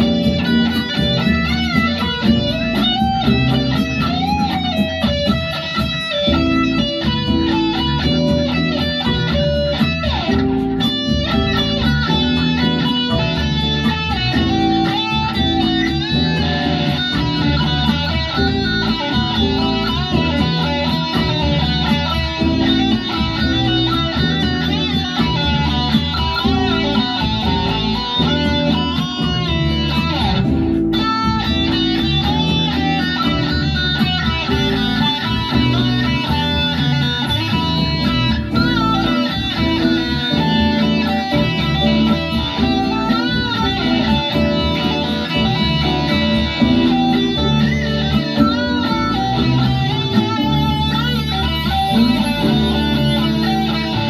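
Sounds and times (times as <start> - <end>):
electric guitar music: 0.0 - 54.0.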